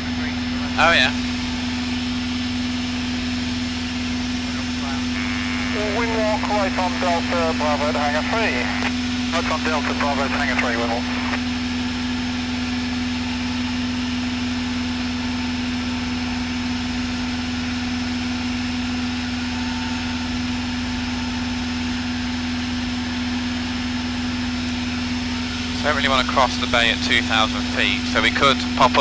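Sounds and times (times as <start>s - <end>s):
light aircraft engine droning: 0.0s - 29.0s.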